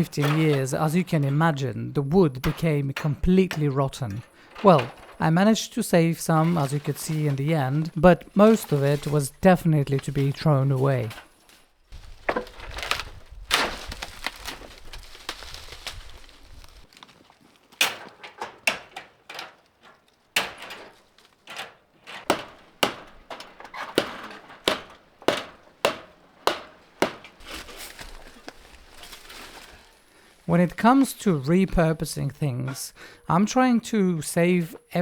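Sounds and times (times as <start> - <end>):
wooden boards knocking and cracking: 2.2 - 30.3.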